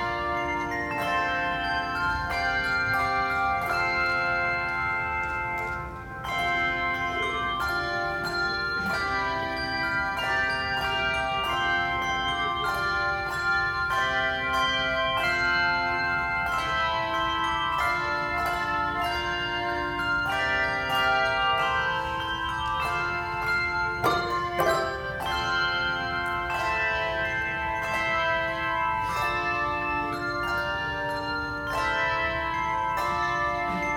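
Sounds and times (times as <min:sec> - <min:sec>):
handbells playing a tune: 0:00.0 - 0:33.9.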